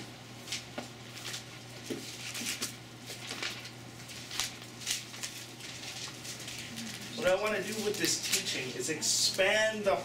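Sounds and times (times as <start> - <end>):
paper pages rustling and flicking: 0.4 - 8.7.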